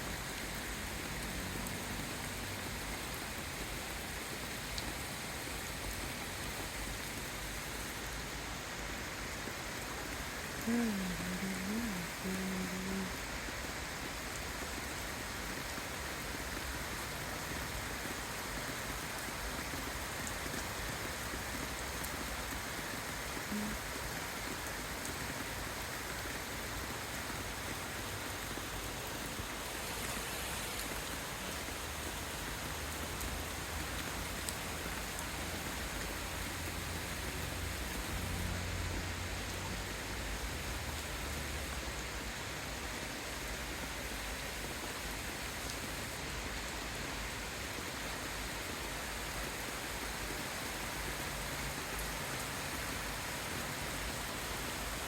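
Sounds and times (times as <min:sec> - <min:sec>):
light rain hissing: 0:00.0 - 0:55.0.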